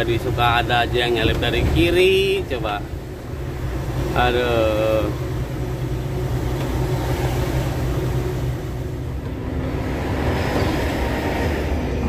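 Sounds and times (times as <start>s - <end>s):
truck engine drone: 0.0s - 12.0s
tyre and road noise: 0.0s - 12.0s.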